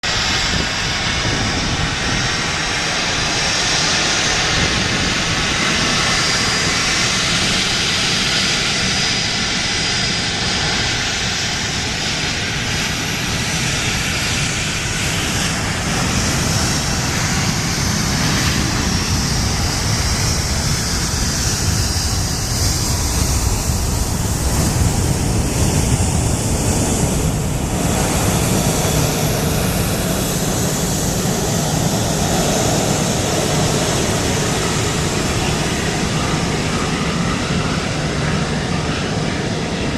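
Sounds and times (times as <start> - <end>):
deep jet rumble: 0.0 - 39.9
jet roar with high whine: 0.0 - 39.9.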